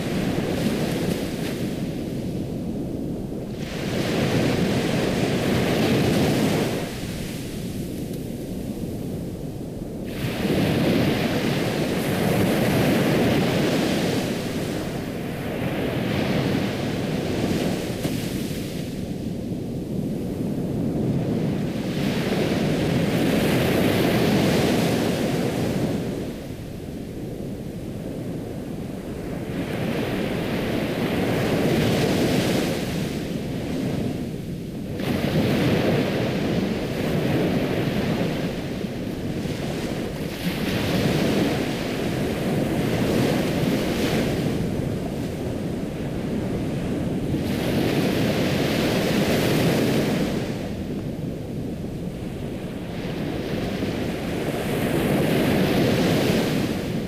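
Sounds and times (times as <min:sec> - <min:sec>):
ocean waves breaking: 0:00.0 - 0:09.2, 0:10.0 - 0:19.3, 0:28.3 - 0:57.0.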